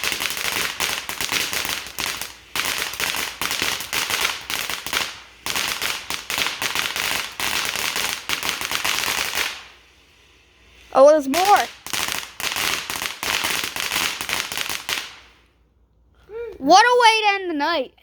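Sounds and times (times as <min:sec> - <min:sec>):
firework cracking bangs: 0:00.0 - 0:15.6.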